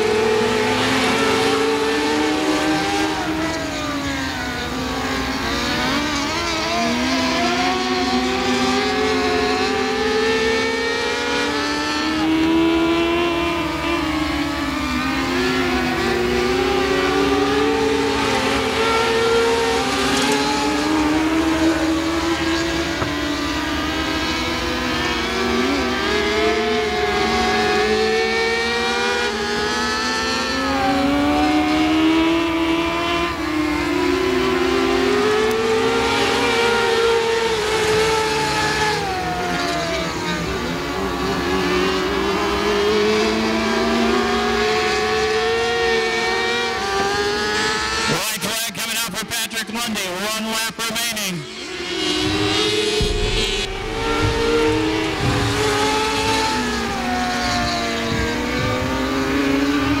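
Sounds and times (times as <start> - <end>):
race car engines revving: 0.0 - 60.0.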